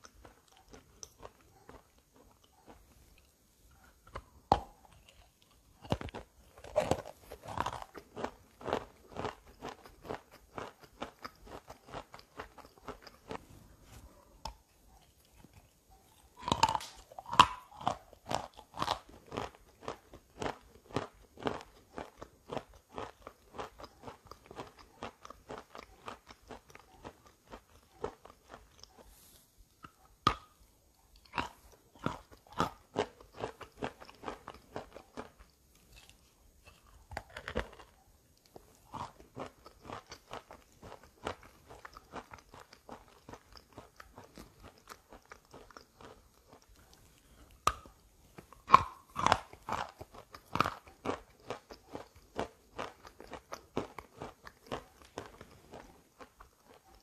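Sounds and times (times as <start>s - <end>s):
crunchy biting and chewing: 0.0s - 57.0s.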